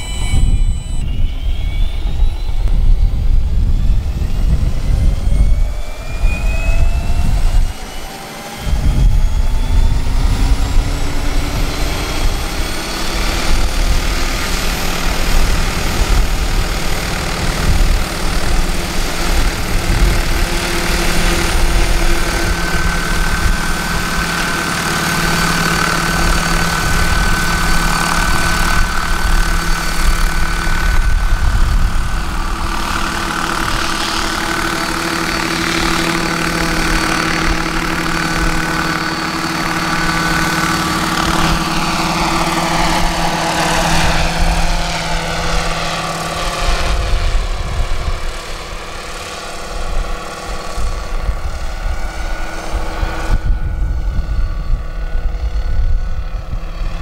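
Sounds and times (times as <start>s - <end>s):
helicopter rotor noise: 0.0s - 57.0s
model helicopter whine: 0.0s - 57.0s.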